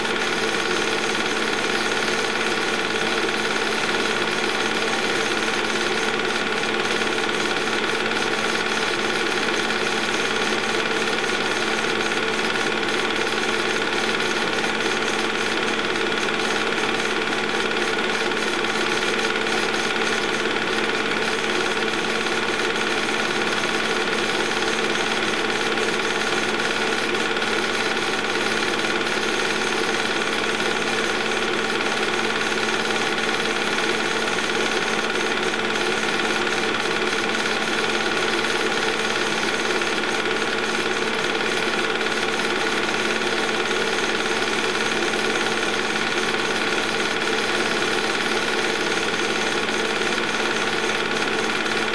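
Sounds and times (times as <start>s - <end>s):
projector motor hum: 0.0s - 51.9s.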